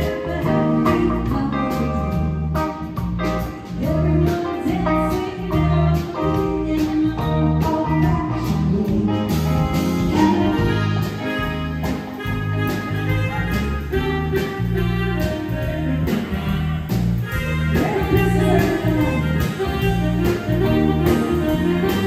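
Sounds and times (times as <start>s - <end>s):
electric guitar: 0.0s - 22.0s
live band playing: 0.0s - 22.0s.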